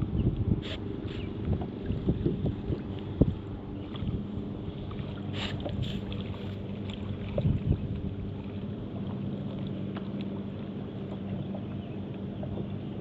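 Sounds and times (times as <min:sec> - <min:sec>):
steady low hum: 0:00.0 - 0:13.0
water splashing against kayak hull: 0:00.0 - 0:13.0.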